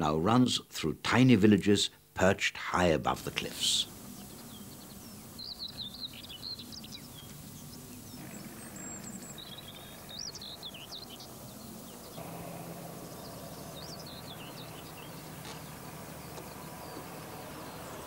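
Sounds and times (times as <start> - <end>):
outdoor background hiss: 0.0 - 18.0
small birds chirping: 3.1 - 18.0
low steady hum: 3.5 - 18.0.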